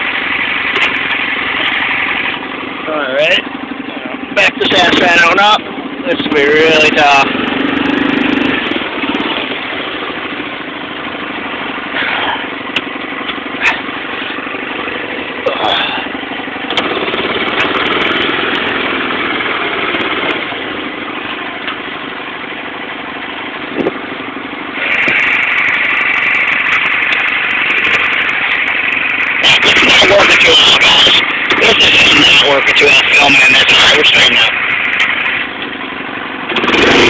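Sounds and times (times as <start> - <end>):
atv engine running: 0.0 - 37.0.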